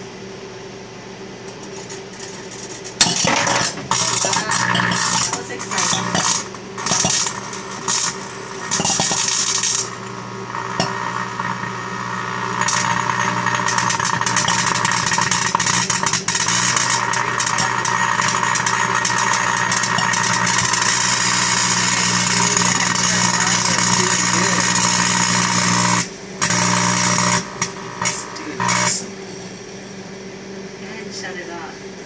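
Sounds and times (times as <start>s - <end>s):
microwave oven humming: 0.0s - 32.0s
crackling buzz of plasma arcing: 1.6s - 29.1s.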